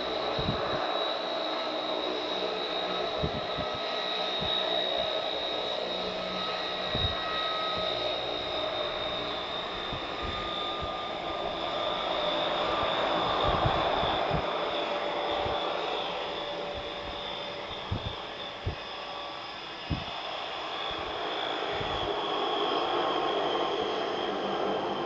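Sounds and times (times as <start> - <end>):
turboprop engines whining: 0.0 - 25.0.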